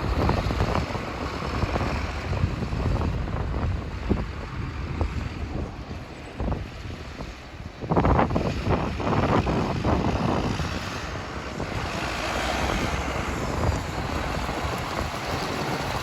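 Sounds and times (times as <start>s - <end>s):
tractor diesel engine running: 0.0s - 16.0s
wind buffeting microphone: 0.0s - 16.0s.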